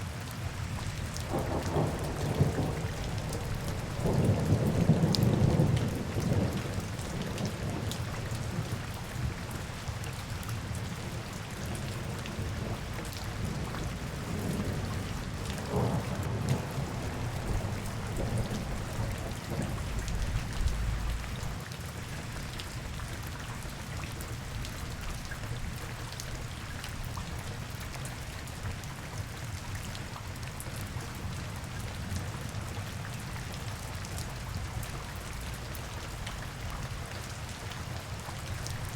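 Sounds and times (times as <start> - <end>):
rain on hard surfaces: 0.0 - 38.9
drips and patter: 0.2 - 38.9.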